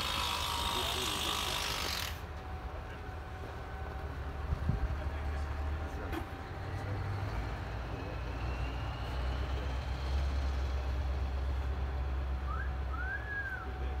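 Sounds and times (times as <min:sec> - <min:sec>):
crane engine droning: 0:00.0 - 0:14.0.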